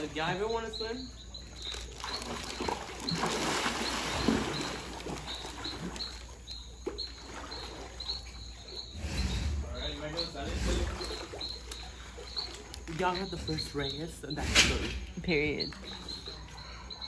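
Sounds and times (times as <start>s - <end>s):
pool water splashing: 0.0s - 16.9s.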